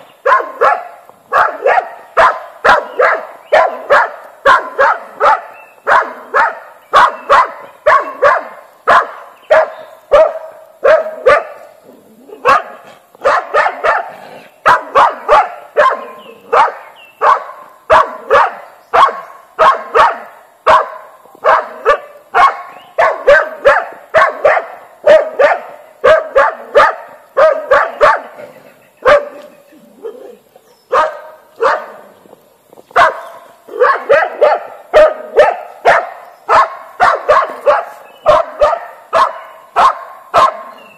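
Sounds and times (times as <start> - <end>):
dog barking: 0.2 - 11.7, 12.3 - 28.4, 29.0 - 32.1, 33.0 - 40.8.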